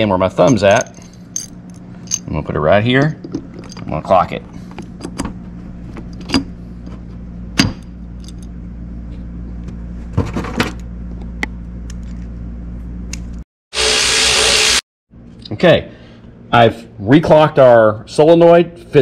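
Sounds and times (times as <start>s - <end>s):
steady low hum: 0.0s - 13.4s, 15.1s - 19.0s.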